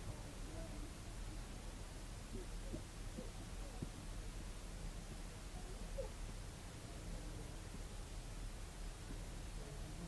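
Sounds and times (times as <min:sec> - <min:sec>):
faint voice: 0:00.0 - 0:08.2, 0:09.0 - 0:10.0
low room hum: 0:00.0 - 0:10.0.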